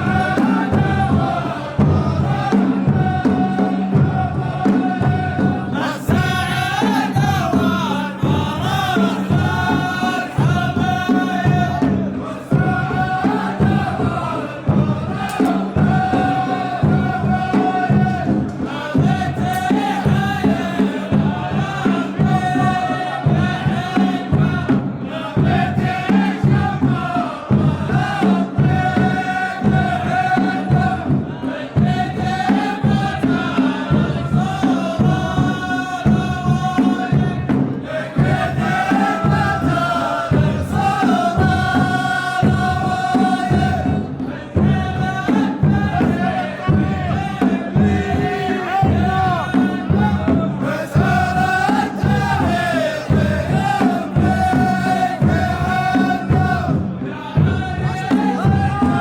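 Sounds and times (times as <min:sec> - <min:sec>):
large drums beating: 0:00.0 - 0:59.0
men chanting in unison: 0:00.0 - 0:59.0.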